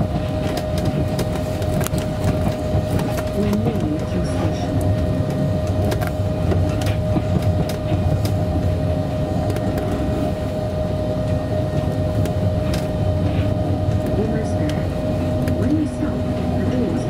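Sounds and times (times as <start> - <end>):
vehicle rumble with whine: 0.0 - 17.0.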